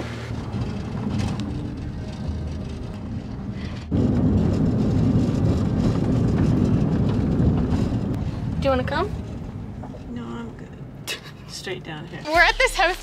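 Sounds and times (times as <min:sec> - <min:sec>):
car interior road rumble: 0:00.0 - 0:13.0
road and wind noise: 0:00.0 - 0:13.0.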